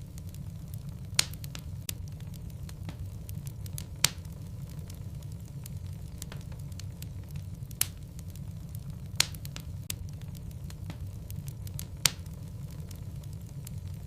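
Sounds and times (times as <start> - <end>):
flame rumble: 0.0 - 14.0
logs crackling and popping: 0.0 - 14.0.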